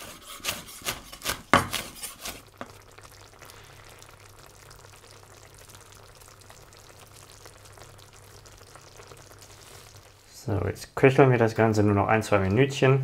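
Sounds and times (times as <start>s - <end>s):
sauce bubbling in a pot: 0.0s - 13.0s.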